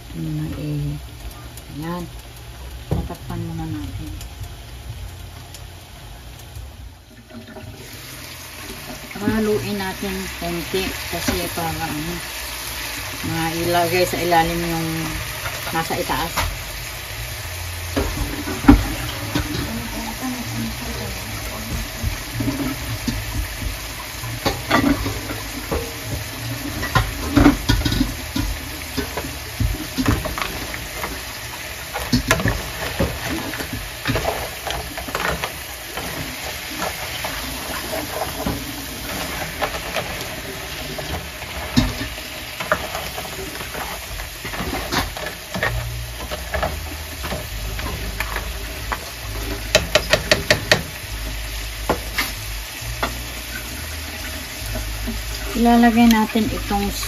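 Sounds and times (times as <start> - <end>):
steady sizzle: 0.0 - 57.0.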